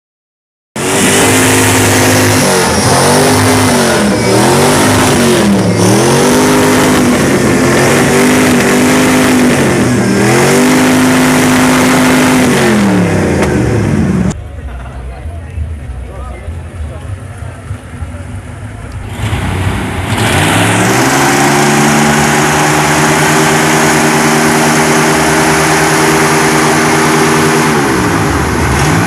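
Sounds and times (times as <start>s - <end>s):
car engine revving: 0.8s - 14.7s, 15.3s - 29.0s.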